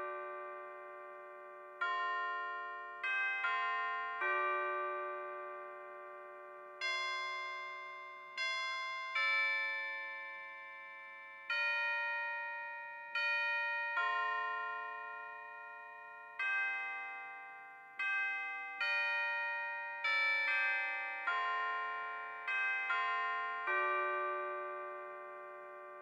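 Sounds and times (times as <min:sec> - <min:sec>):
slow bell-like chords: 0:00.0 - 0:26.0.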